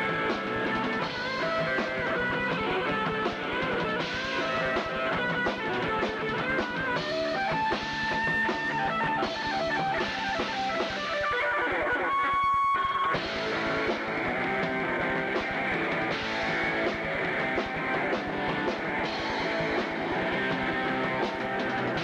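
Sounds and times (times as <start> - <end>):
drums: 0.0 - 22.0
electric guitar lead: 0.0 - 22.0.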